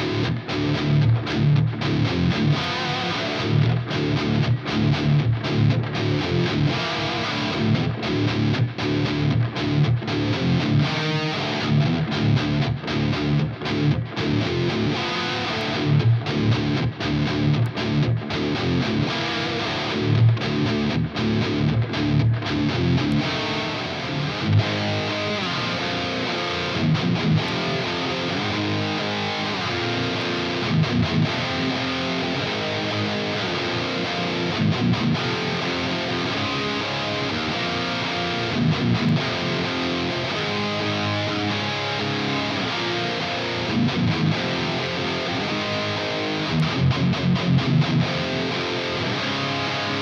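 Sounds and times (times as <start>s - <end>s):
distorted electric guitar riffs: 0.0s - 50.0s.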